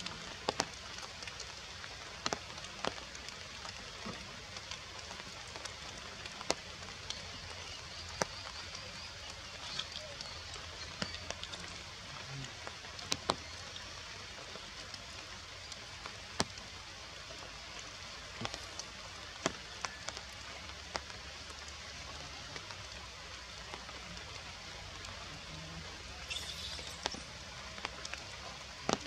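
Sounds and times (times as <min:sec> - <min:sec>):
sharp drips and taps: 0:00.0 - 0:16.7, 0:18.3 - 0:23.0, 0:26.1 - 0:29.0
rain on foliage: 0:00.0 - 0:29.0.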